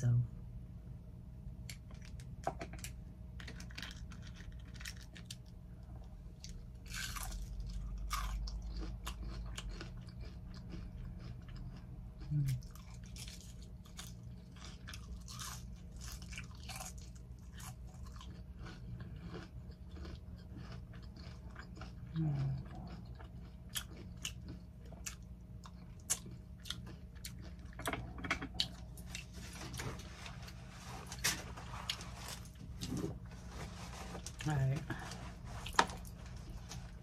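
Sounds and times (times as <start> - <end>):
crunching onion rings: 1.6 - 37.0.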